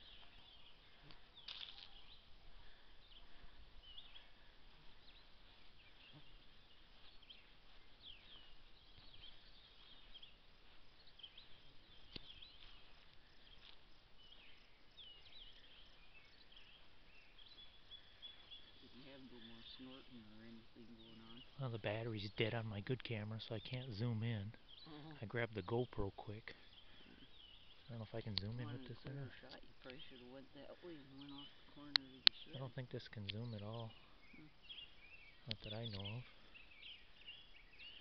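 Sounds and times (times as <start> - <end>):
distant birds chirping: 0.0 - 38.0
low steady hiss: 0.0 - 38.0.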